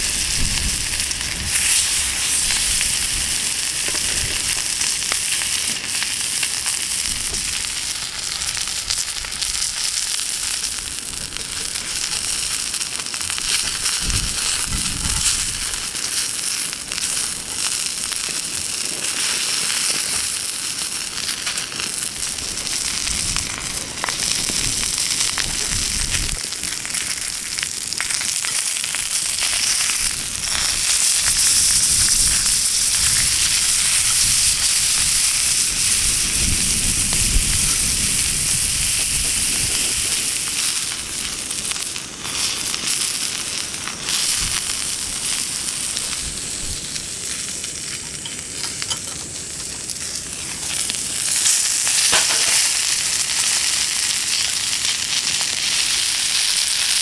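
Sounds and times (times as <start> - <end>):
meat sizzling: 0.0 - 57.0
wood fire crackling and popping: 0.0 - 57.0.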